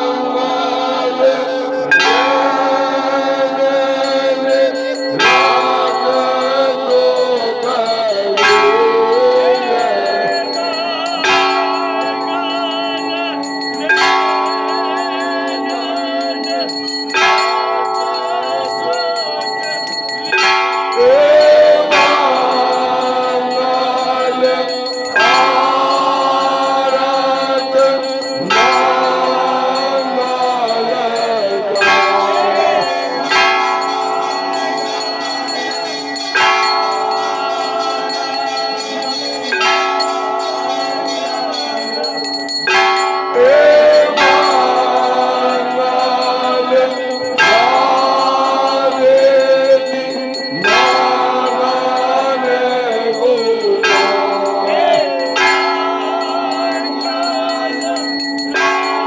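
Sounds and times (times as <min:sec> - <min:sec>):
people singing: 0:00.0 - 0:59.0
temple bells ringing: 0:00.0 - 0:59.0.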